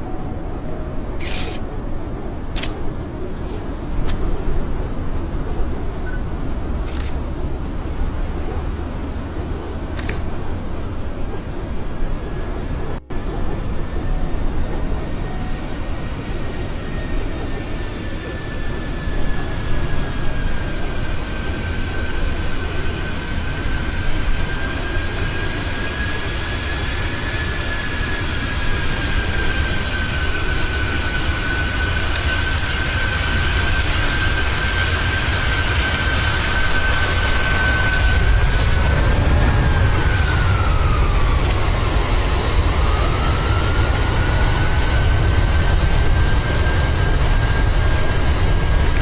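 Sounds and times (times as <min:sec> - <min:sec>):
aircraft engines landing: 0:00.0 - 0:49.0.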